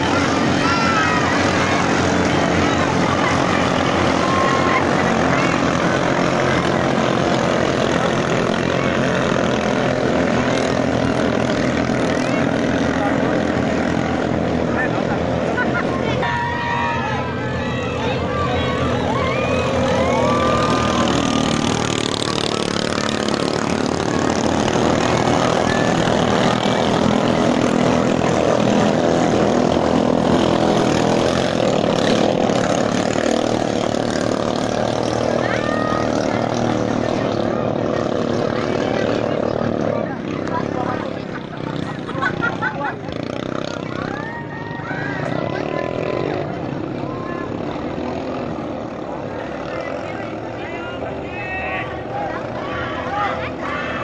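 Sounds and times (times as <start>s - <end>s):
boat engines droning at full throttle: 0.0s - 54.0s.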